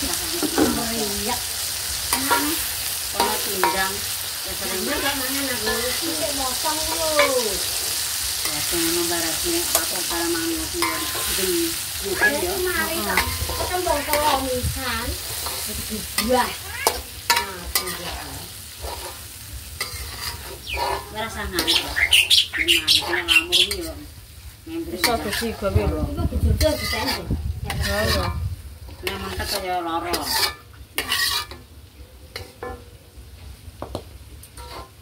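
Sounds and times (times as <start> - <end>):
metal spatula scraping wok: 0.0 - 24.1, 24.8 - 31.7, 32.3 - 32.8, 34.5 - 35.0
sauce sizzling in a wok: 0.0 - 35.0.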